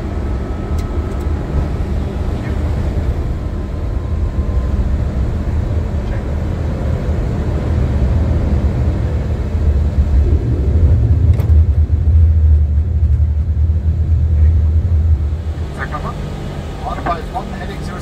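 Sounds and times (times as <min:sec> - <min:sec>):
aircraft engine and airflow rumble: 0:00.0 - 0:18.0.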